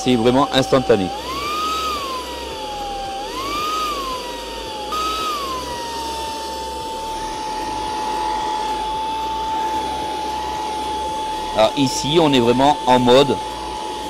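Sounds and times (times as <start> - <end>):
vacuum motor whining: 0.0 - 14.0.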